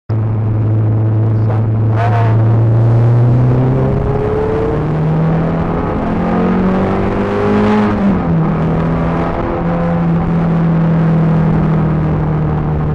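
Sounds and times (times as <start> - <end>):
car engine under load: 0.1 - 12.9.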